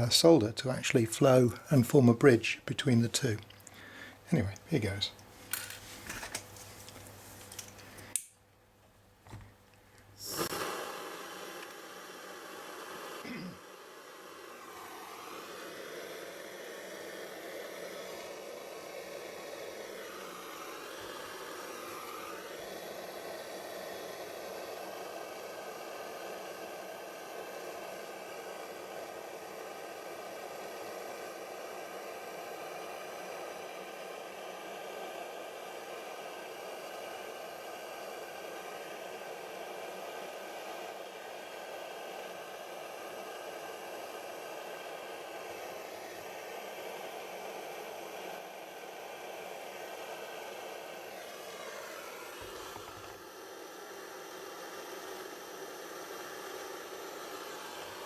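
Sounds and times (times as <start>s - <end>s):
blow lamp hissing: 0.0s - 58.0s.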